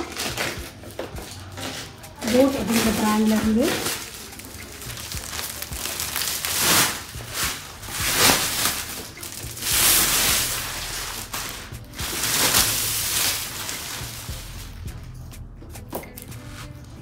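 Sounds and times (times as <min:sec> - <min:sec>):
plastic film crinkling: 0:00.0 - 0:15.2.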